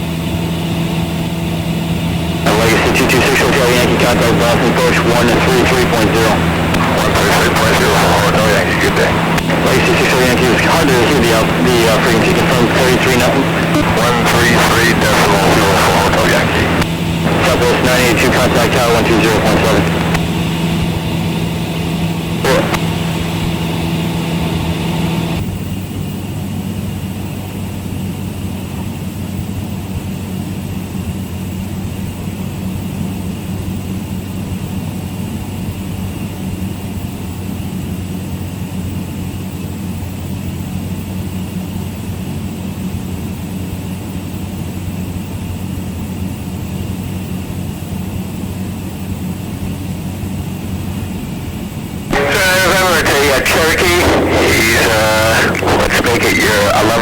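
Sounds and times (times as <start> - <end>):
small plane engine drone: 0.0 - 57.0.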